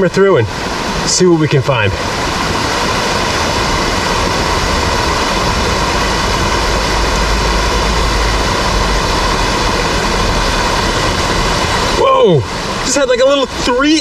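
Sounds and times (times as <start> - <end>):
stream water spilling into pool: 0.0 - 14.0.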